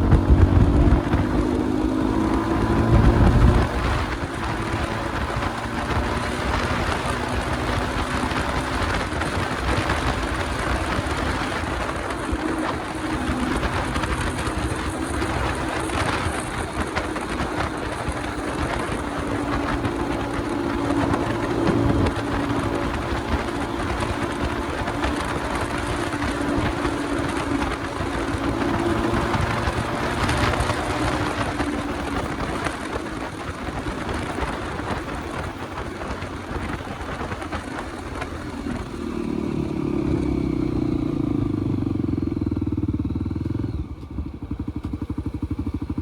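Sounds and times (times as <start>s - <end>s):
motorcycle engine running: 0.0s - 46.0s
wind rush and road noise: 0.0s - 46.0s.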